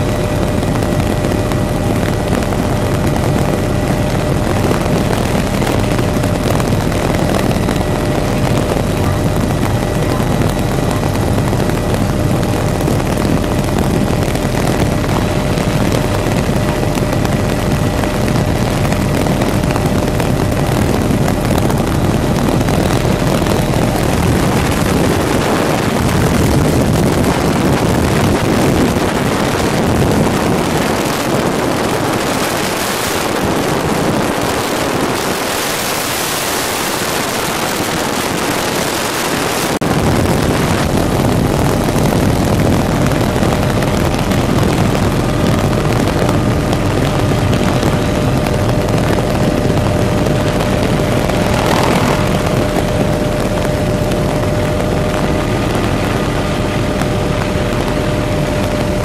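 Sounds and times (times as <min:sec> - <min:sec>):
helicopter engine and rotor: 0:00.0 - 0:59.0
rushing wind: 0:00.0 - 0:59.0.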